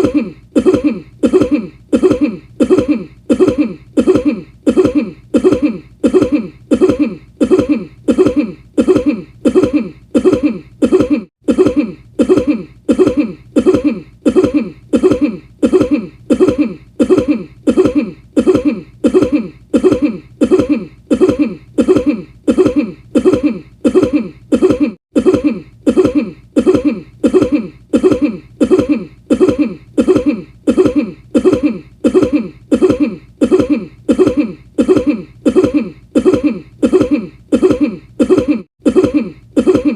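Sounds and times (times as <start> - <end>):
looped cough: 0.0 - 39.9.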